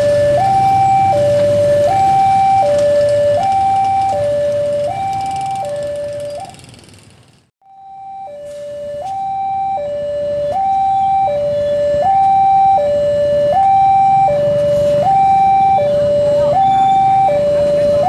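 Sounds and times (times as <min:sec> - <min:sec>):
two-tone crossing alarm: 0:00.0 - 0:06.8, 0:07.6 - 0:18.0.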